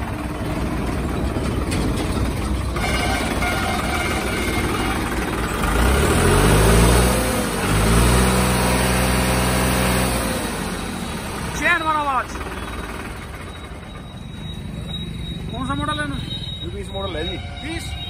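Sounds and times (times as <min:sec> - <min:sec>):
tractor diesel engine revving: 0:00.0 - 0:18.0.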